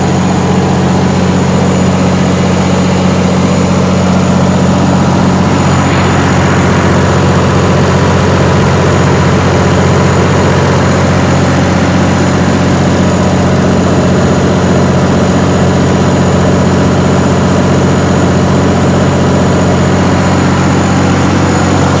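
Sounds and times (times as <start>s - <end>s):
generator engine drone: 0.0s - 22.0s.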